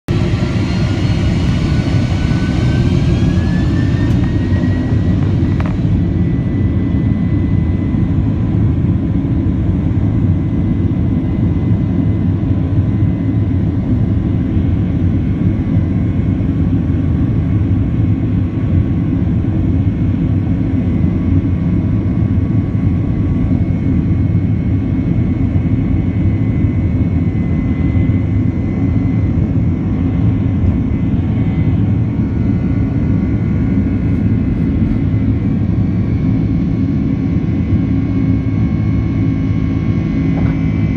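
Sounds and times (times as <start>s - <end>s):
jet engine whine: 0.1s - 40.9s
jet engines rumbling in cabin: 0.1s - 40.9s.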